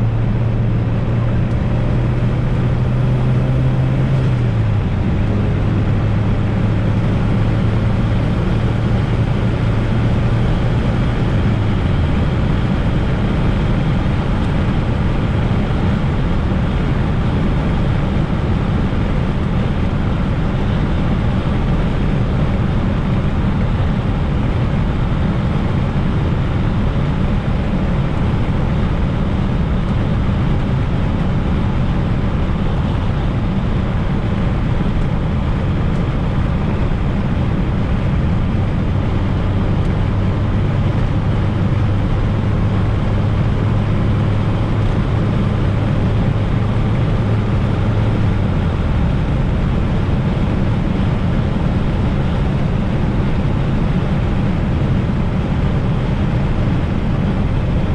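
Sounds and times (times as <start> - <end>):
car engine running: 0.0 - 57.9
road and tyre noise: 0.0 - 57.9.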